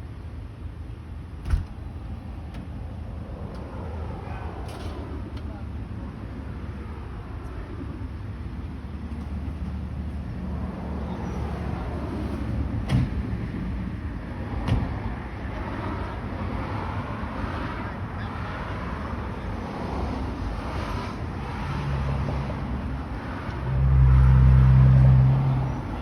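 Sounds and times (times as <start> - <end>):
heavy vehicle engine drone: 0.0 - 26.0
road traffic passing: 0.0 - 26.0.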